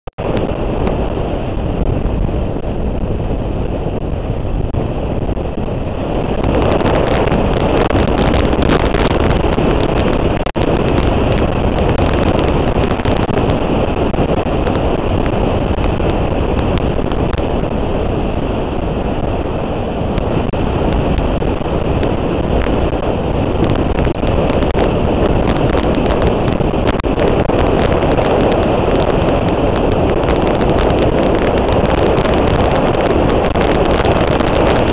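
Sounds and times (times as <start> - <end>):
wind noise on microphone: 0.2 - 34.9.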